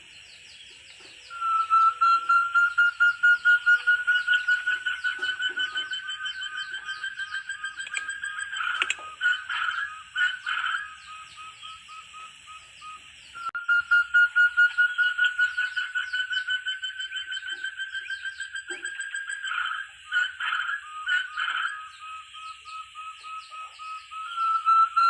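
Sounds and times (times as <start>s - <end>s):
birds chirping: 0.0s - 25.0s
high insect-like tone: 0.0s - 25.0s
partridge whistled calls: 0.0s - 25.0s.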